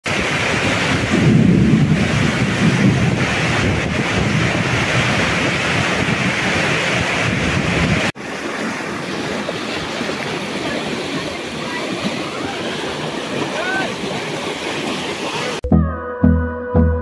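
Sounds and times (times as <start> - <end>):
floodwater rushing over rocks: 0.0 - 15.6
heavy rain pouring: 0.0 - 15.6
wind rumbling on microphone: 0.0 - 15.6.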